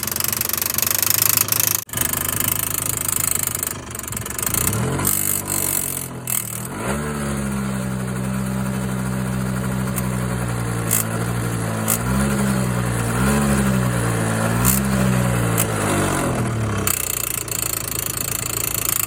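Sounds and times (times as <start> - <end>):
engine clicking noise: 0.0 - 19.0
light throttle blips: 0.0 - 19.0
scooter engine idling: 0.0 - 19.0.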